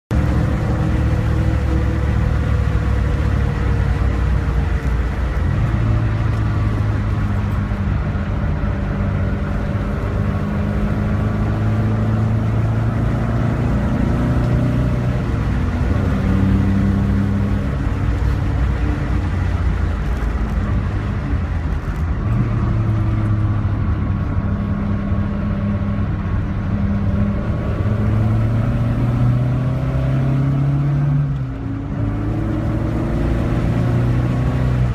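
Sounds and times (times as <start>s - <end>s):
car engine accelerating hard: 0.1s - 34.9s
road and wind noise: 0.1s - 34.9s.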